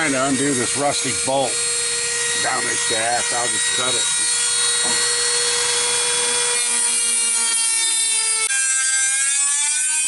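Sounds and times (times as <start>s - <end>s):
rotary tool cutting metal bolt: 0.0s - 10.0s.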